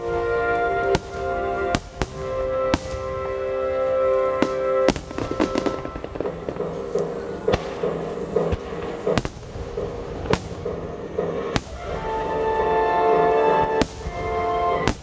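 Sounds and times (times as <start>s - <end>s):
firework crackling: 0.0s - 15.0s
firework shells booming: 0.0s - 15.0s
music playing: 0.0s - 15.0s.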